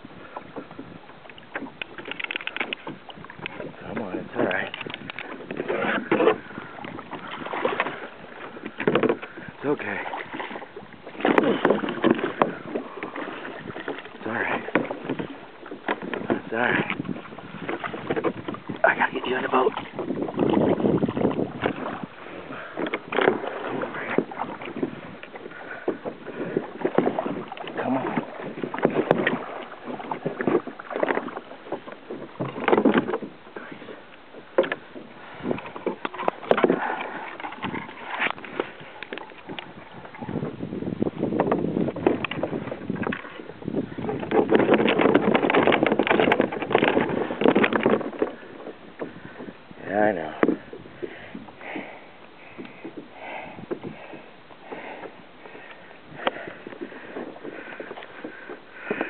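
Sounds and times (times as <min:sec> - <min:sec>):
water splashing against kayak: 0:00.0 - 0:59.0.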